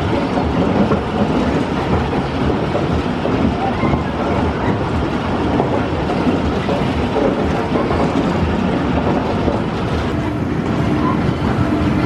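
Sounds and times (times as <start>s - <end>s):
amusement ride mechanical rumble: 0.0s - 12.0s.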